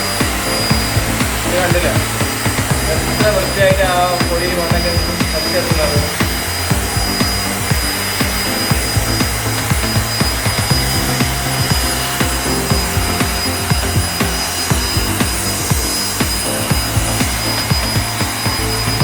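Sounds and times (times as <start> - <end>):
background music with steady beat: 0.0 - 19.0
handheld vacuum cleaner whining: 0.0 - 19.0.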